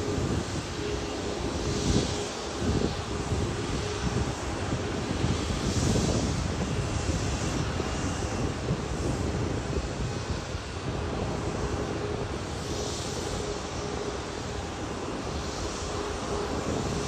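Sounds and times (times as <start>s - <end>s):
airliner engines roaring: 0.0s - 17.0s.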